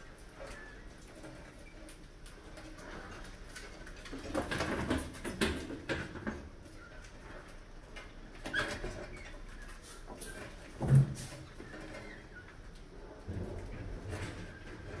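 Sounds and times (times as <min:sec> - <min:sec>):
mice scrabbling on cans: 0:00.0 - 0:15.0.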